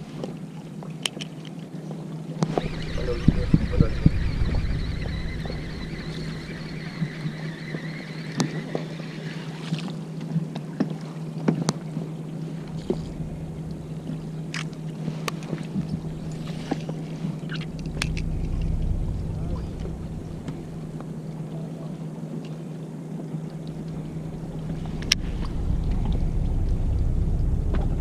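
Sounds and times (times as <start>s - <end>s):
boat hum: 0.0s - 28.0s
fishing reel gear whine: 2.4s - 10.6s, 11.2s - 28.0s.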